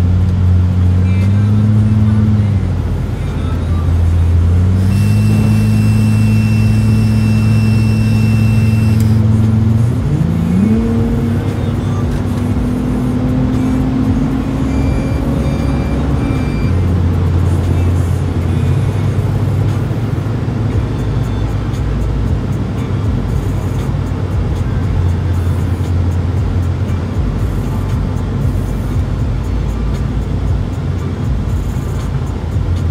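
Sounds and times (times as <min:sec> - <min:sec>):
car exhaust drone from inside: 0:00.0 - 0:32.9.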